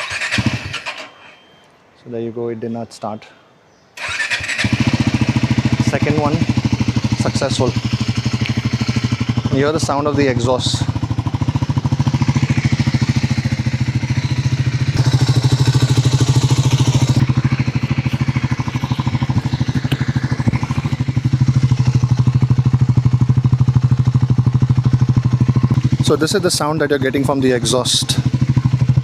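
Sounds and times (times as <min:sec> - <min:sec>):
motorcycle engine idling: 0:04.0 - 0:29.0.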